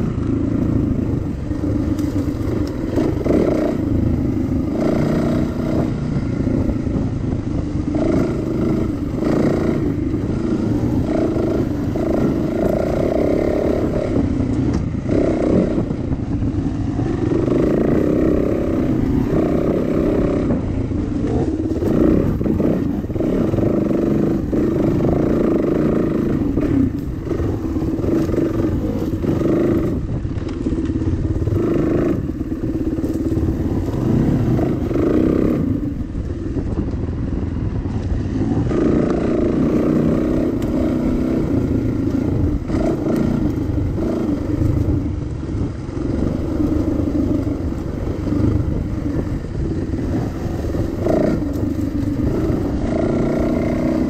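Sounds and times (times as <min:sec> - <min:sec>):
dirt bike engine revving: 0:00.0 - 0:36.7, 0:37.3 - 0:54.0.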